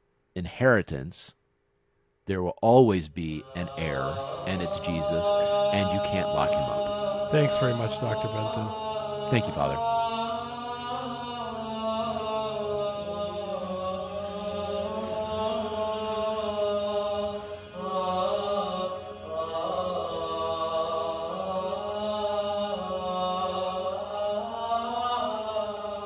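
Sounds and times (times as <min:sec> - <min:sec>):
voices chanting long notes: 0:03.0 - 0:26.0
low drone: 0:03.4 - 0:26.0.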